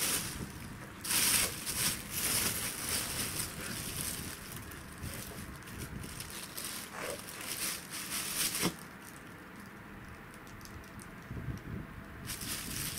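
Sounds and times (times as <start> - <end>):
plastic bag crinkling: 0.0 - 11.0, 12.2 - 12.9.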